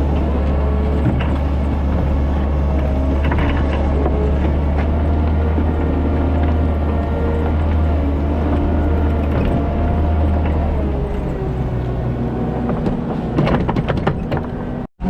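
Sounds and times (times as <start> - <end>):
clanks and rattles: 0.0 - 14.9
diesel engine running: 0.0 - 15.0.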